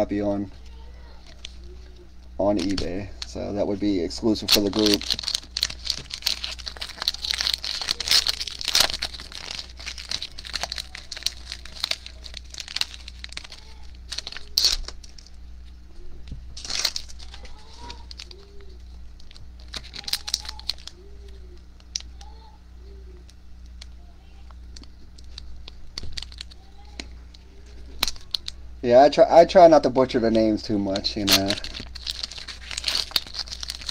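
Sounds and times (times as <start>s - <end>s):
foil wrapper crinkling and tearing: 1.2s - 1.8s, 2.4s - 15.8s, 16.6s - 22.5s, 23.2s - 28.6s, 30.7s - 33.9s.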